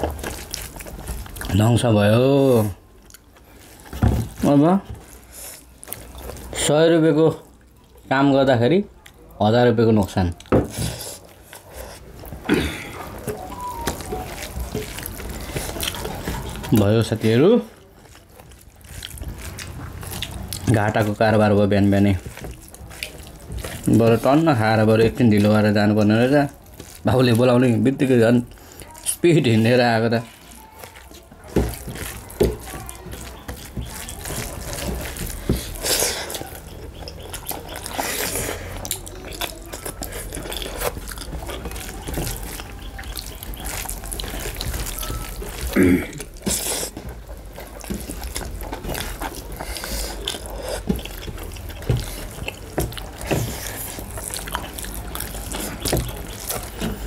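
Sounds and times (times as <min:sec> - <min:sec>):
chewing and lip-smacking: 0:00.0 - 0:04.0, 0:05.0 - 0:06.6, 0:08.9 - 0:09.4, 0:10.1 - 0:57.0
fingers mixing rice: 0:00.0 - 0:06.8, 0:13.1 - 0:57.0.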